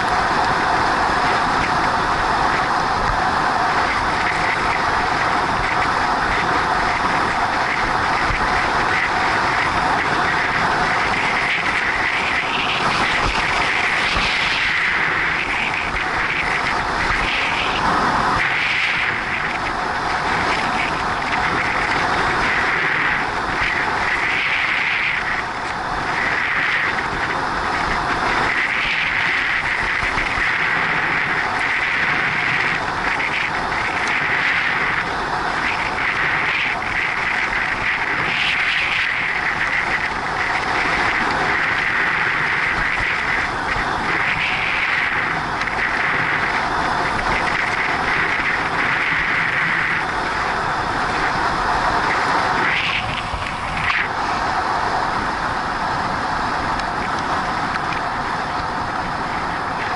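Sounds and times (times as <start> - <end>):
bicycle tyres on rough asphalt: 0.0 - 59.9
wind buffeting microphone: 0.0 - 59.9.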